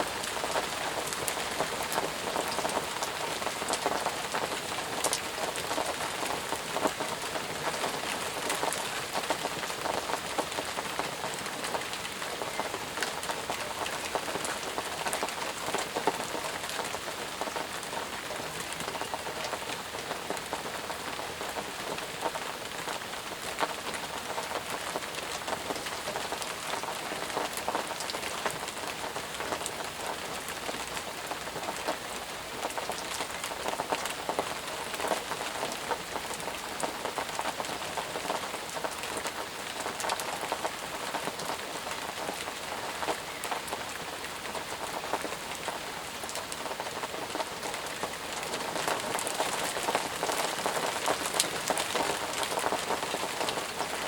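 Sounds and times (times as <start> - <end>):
intense rain with ticking drops: 0.0 - 54.0.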